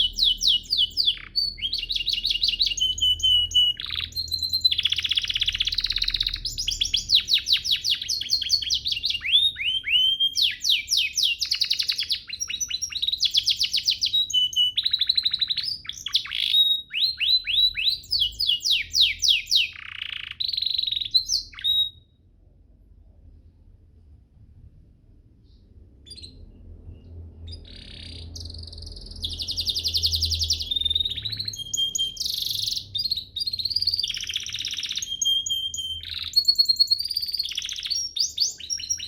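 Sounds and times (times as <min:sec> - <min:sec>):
canary singing trills: 0:00.0 - 0:22.1, 0:25.4 - 0:39.0.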